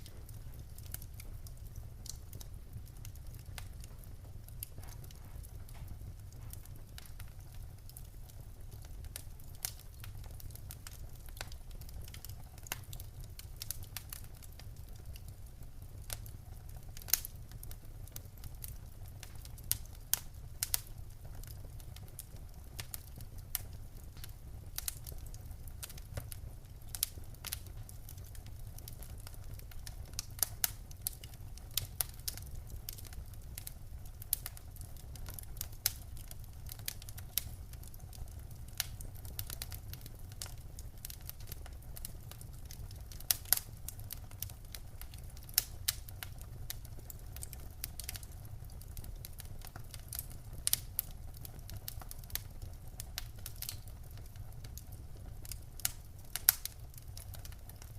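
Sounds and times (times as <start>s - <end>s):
fire crackling: 0.0s - 57.9s.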